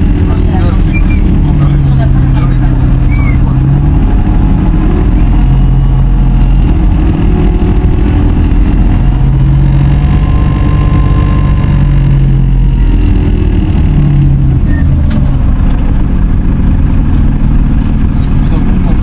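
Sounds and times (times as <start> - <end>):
bus engine running: 0.0 - 19.0
engine cooling fan blowing: 0.0 - 19.0
low hum: 0.0 - 19.0.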